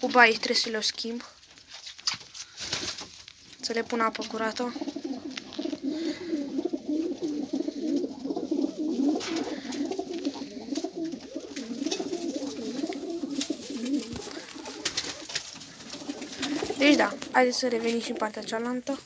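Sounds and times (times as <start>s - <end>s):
pigeons cooing: 3.6s - 19.0s.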